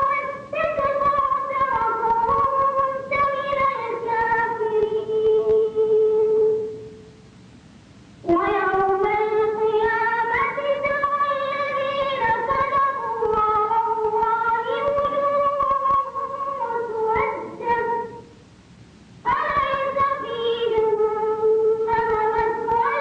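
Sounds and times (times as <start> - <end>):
boy chanting melodically: 0.0 - 7.1, 8.2 - 18.4, 19.2 - 23.0.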